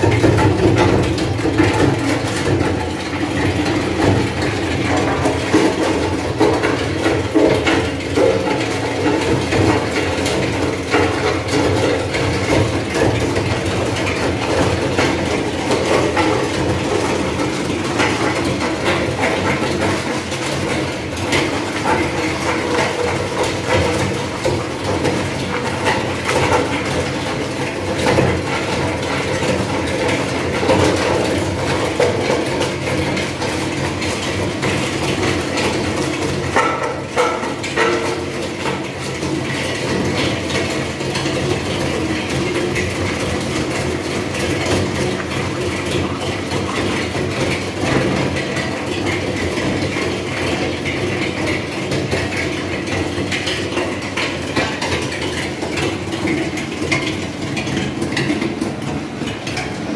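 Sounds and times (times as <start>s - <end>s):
wood shredder chopping wood: 0.0s - 50.3s.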